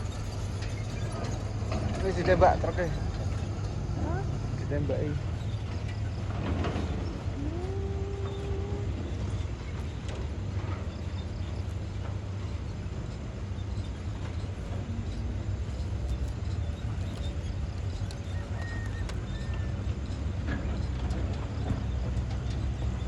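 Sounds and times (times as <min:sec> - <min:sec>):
heavy diesel engine rumbling: 0:00.0 - 0:23.0.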